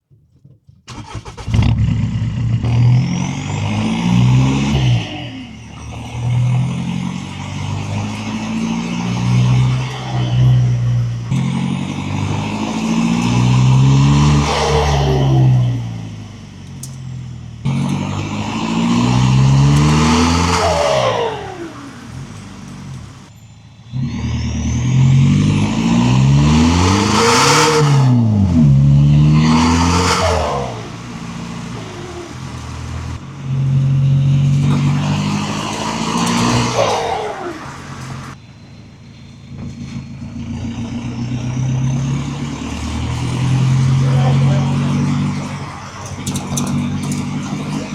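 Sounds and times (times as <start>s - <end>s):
diesel engine revving and idling: 0.9s - 47.9s.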